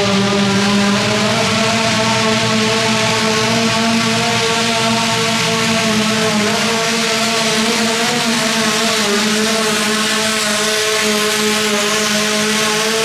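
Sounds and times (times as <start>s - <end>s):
tractor engine at high revs: 0.0s - 13.0s.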